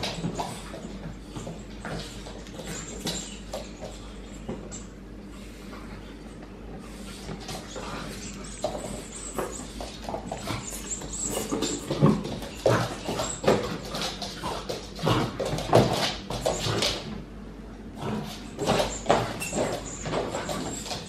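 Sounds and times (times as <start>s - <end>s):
puppy playing with toy: 0.0s - 4.9s, 7.1s - 17.2s, 18.0s - 21.0s.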